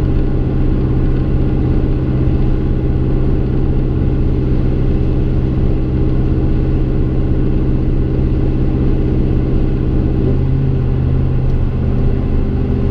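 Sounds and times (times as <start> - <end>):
truck engine exhaust note: 0.0 - 12.9.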